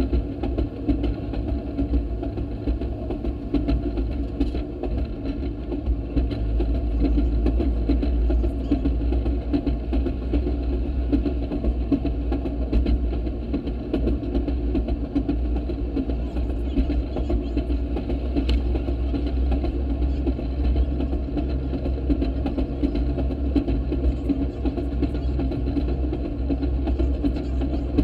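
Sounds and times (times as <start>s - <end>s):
small engine droning: 0.0s - 28.0s
steel wheels clicking on track: 0.0s - 28.0s.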